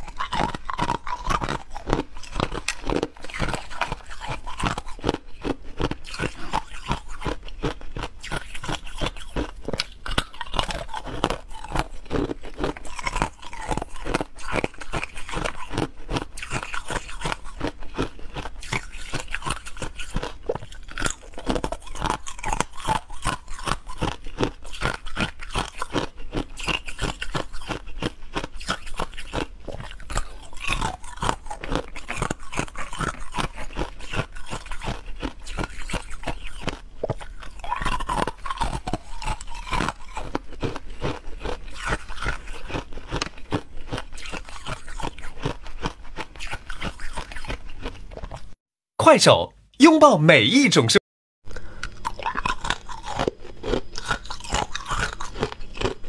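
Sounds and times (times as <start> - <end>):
ice cubes being chewed: 0.0 - 48.6, 51.5 - 56.0.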